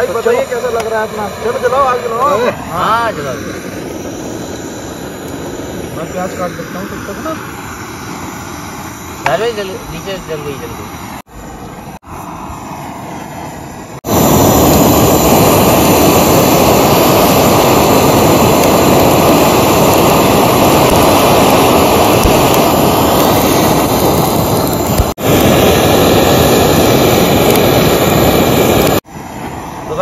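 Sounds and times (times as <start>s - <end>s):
gas flame gun hissing: 0.0s - 30.0s.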